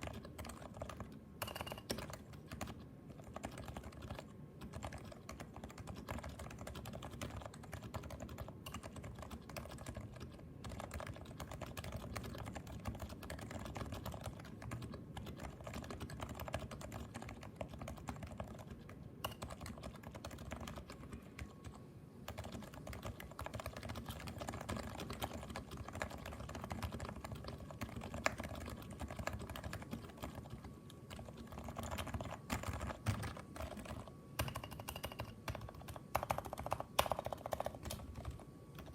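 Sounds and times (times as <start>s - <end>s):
typing on a quiet keyboard: 0.0s - 38.9s.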